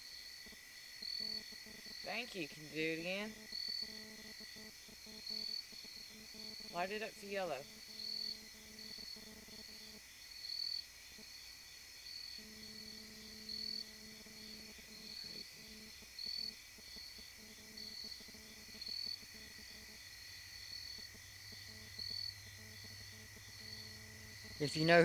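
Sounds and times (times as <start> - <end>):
crickets chirping: 0.0 - 25.0
faint low hum: 0.0 - 25.0
steady high insect trill: 0.0 - 25.0.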